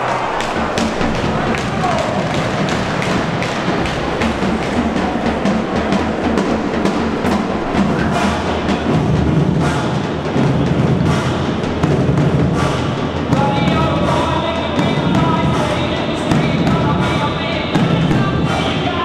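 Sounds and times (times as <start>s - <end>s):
music with steady drum beat: 0.0s - 19.0s.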